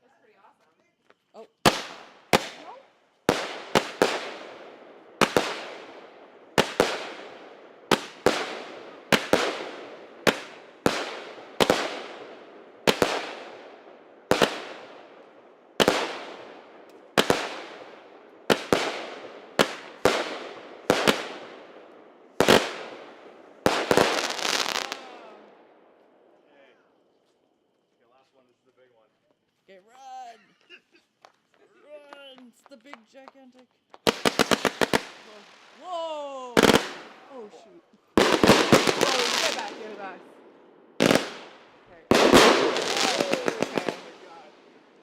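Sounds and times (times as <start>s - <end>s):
fireworks crackle: 0.0s - 45.0s
fireworks bangs: 1.6s - 25.5s, 31.2s - 45.0s.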